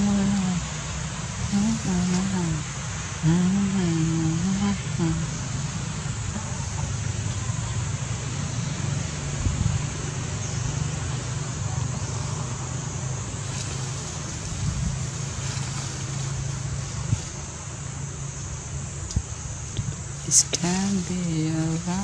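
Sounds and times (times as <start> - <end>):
constant hiss: 0.0 - 22.0
engine running steadily: 0.0 - 22.0.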